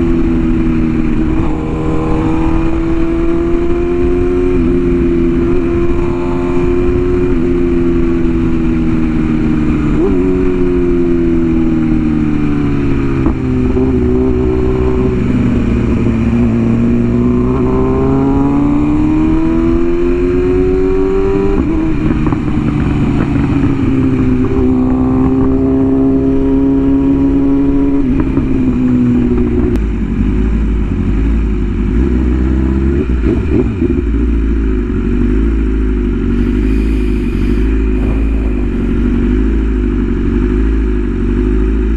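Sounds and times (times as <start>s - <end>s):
motorcycle engine shifting gears: 0.0s - 41.9s.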